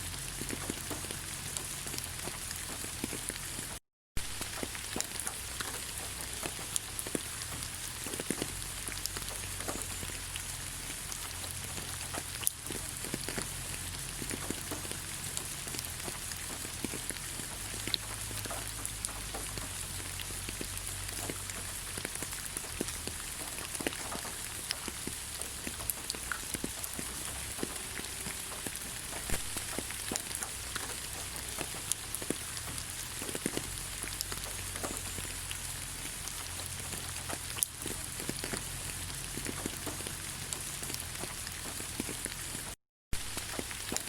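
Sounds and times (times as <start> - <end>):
rain falling on leaves: 0.0 - 44.0.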